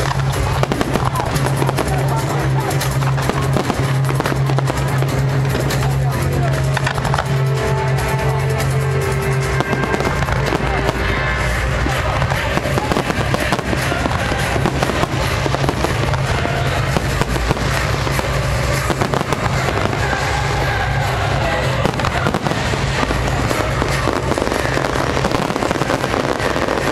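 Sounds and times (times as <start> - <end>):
fireworks bangs and crackles: 0.0 - 26.9
music playing: 0.0 - 26.9.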